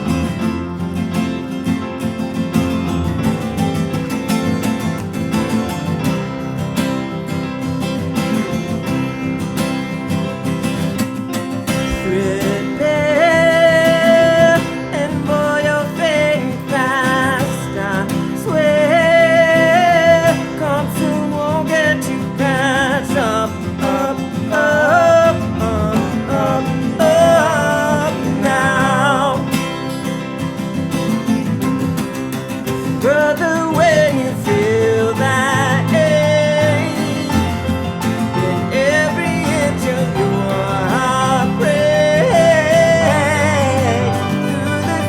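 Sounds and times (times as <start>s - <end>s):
country band playing: 0.0s - 45.0s
wavering melodic lead line: 0.0s - 45.0s.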